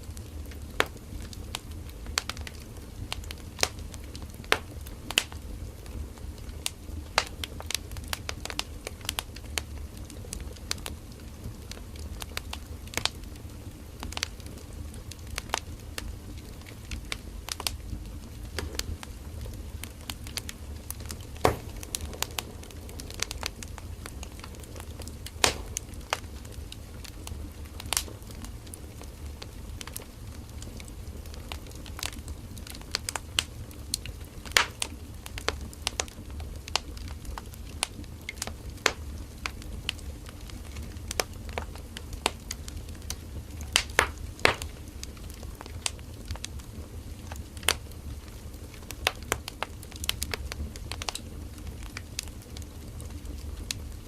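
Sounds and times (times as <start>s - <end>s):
campfire crackling and popping: 0.0s - 54.0s
low rumble of flames: 0.0s - 54.0s.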